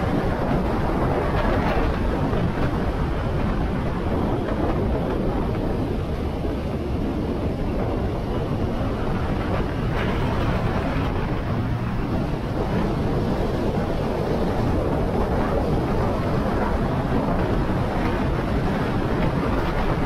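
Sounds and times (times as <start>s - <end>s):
road noise: 0.0s - 20.0s
wind rushing over microphone: 0.0s - 20.0s.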